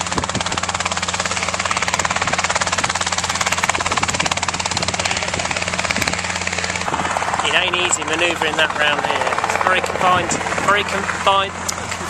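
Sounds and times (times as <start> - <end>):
engine hum: 0.0 - 12.0
helicopter rotor chop: 0.0 - 12.0.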